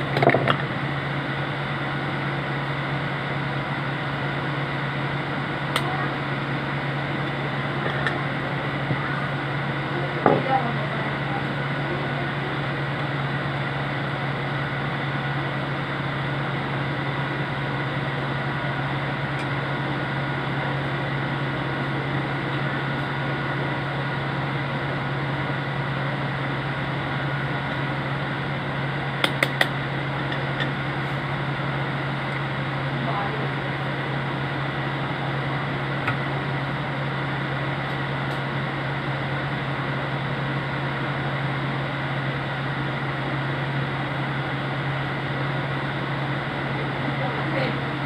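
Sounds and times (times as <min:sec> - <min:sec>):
electrical hum: 0:00.0 - 0:48.0
fan whirring: 0:00.0 - 0:48.0.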